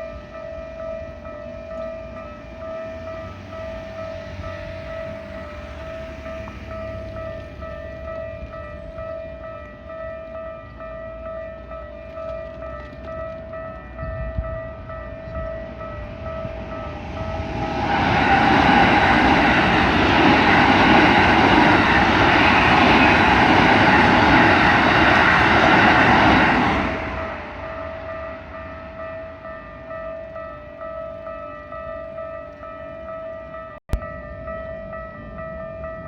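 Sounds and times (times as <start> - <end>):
level crossing warning bell: 0.0 - 36.0
train rumble and wheel noise: 0.0 - 36.0.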